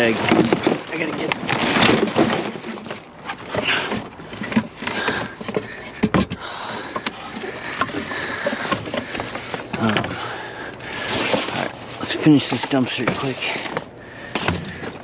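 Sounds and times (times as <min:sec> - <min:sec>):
trash bags rustling: 0:00.0 - 0:15.0.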